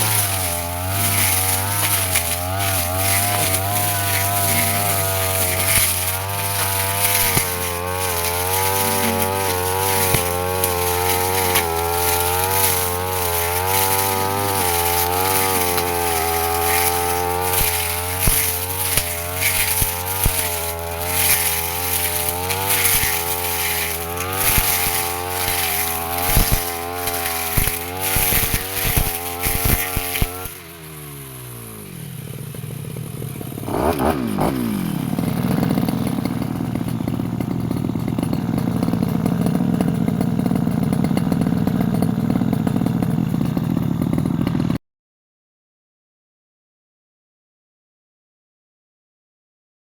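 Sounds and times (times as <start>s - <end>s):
brush cutter engine running: 0.0s - 44.8s.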